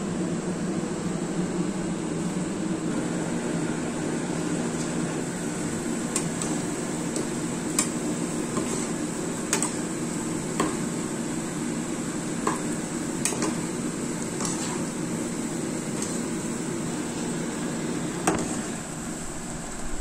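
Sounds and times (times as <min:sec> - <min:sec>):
dough sizzling in hot oil: 0:03.1 - 0:19.6.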